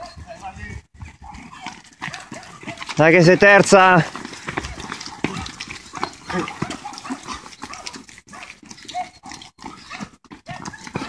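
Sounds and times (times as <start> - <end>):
runners' footsteps on brick: 0.0 - 11.0.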